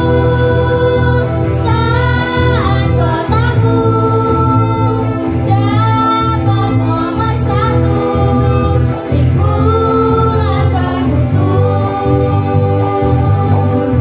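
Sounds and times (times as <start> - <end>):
steady low bass: 0.0 - 14.0.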